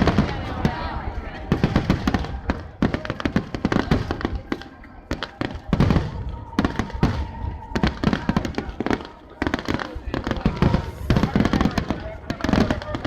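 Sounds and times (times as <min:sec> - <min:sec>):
firework shells booming and crackling: 0:00.0 - 0:13.0.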